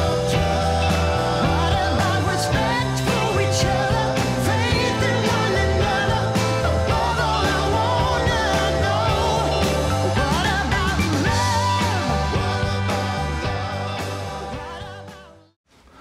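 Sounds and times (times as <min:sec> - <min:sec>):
song with sung vocal and bass: 0:00.0 - 0:15.6.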